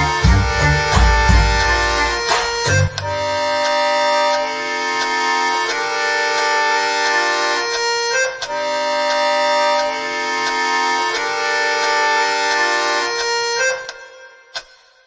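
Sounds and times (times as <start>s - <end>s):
accordion chords: 0.0s - 14.6s.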